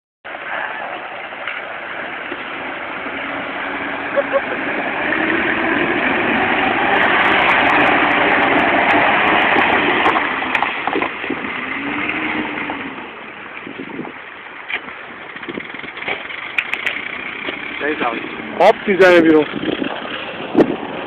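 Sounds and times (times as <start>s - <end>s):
wheels splashing through water: 0.3s - 21.0s
vehicle engine running: 2.0s - 13.8s, 14.5s - 21.0s.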